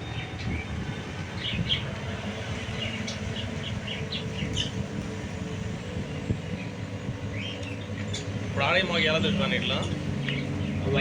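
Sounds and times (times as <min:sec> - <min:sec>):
low steady rumble: 0:00.0 - 0:11.0
small birds chirping: 0:00.0 - 0:11.0.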